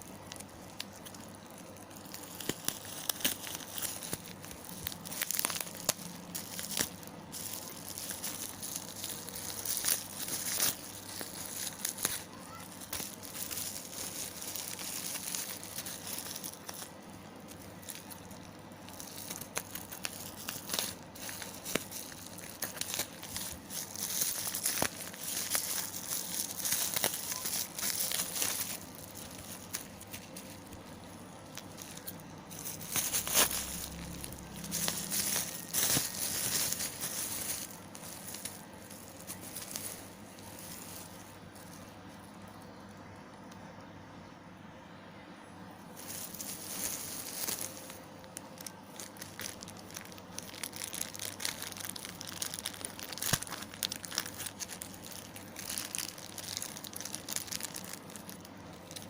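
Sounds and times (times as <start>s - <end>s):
plastic packaging crinkling: 0.0s - 43.0s, 45.9s - 59.0s.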